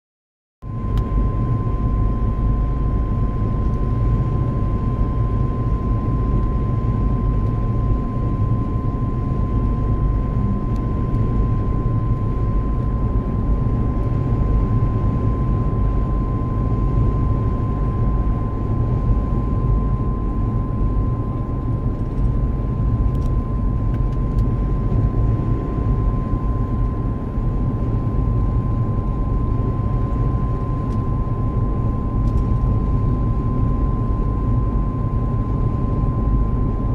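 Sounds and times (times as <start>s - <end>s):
high steady whine: 0.6s - 36.9s
road and engine rumble: 0.7s - 36.9s.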